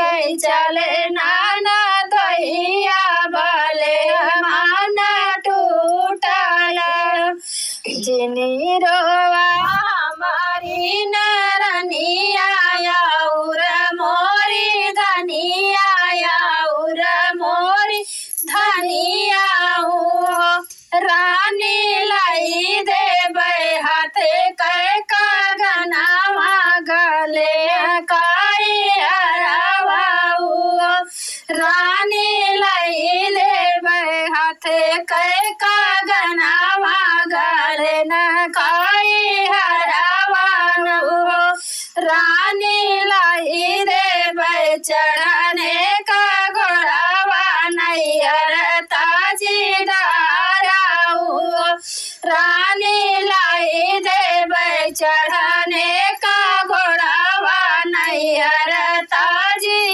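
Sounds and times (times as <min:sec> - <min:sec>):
woman singing folk song: 0:00.0 - 0:59.9.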